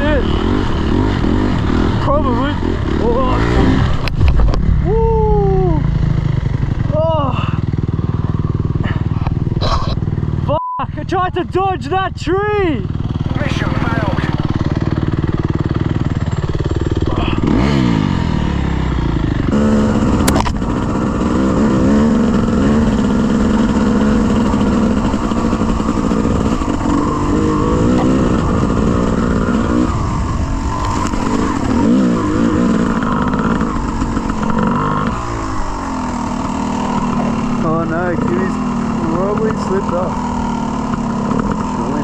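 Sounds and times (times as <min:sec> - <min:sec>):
dirt bike engine revving: 0:00.0 - 0:10.6, 0:11.2 - 0:42.0.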